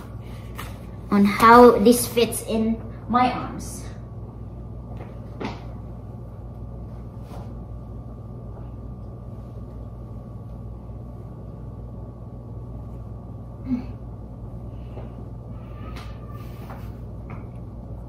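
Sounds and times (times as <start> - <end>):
faint whine: 0.0 - 18.0
low room hum: 0.0 - 18.0.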